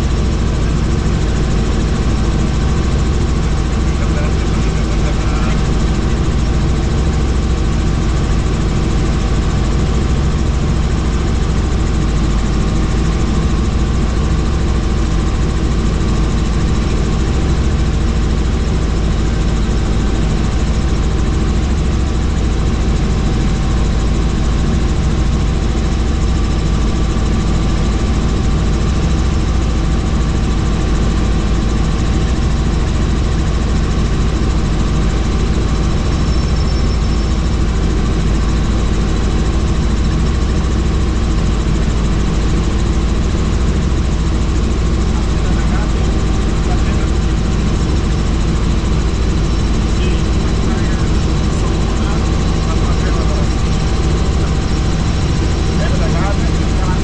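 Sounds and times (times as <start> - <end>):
helicopter engine and rotor: 0.0 - 57.0.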